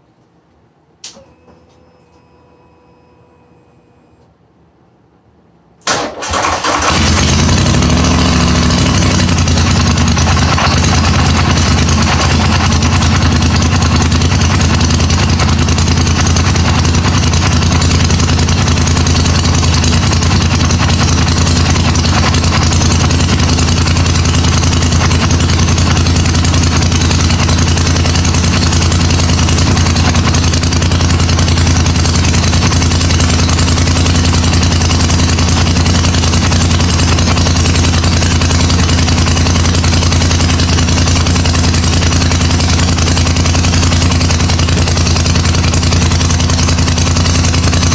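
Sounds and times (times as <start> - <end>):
atv engine idling: 6.2 - 47.9.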